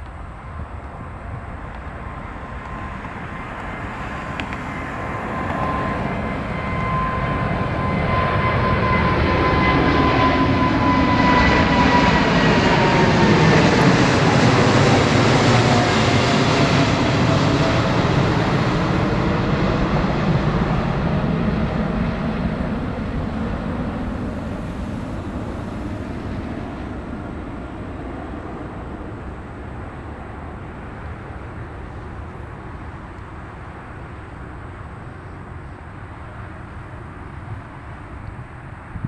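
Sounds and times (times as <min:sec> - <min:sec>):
jet airliner engines passing: 0:00.0 - 0:39.0.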